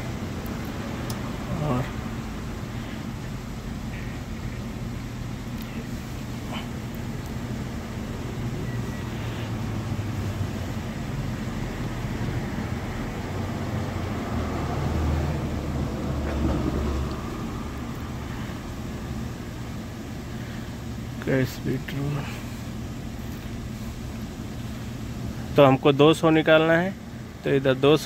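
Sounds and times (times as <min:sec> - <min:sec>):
low rumble of traffic: 0:00.0 - 0:28.0.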